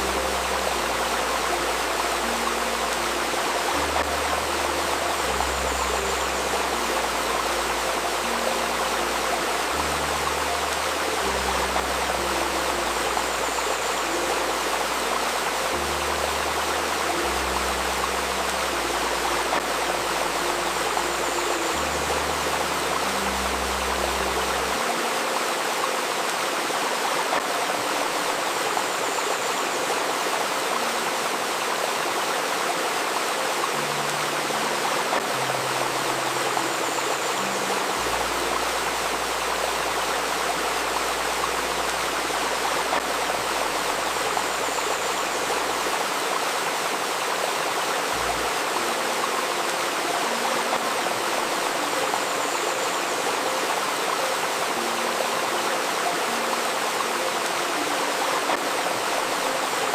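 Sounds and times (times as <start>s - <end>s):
river babbling over stones: 0.0s - 59.9s.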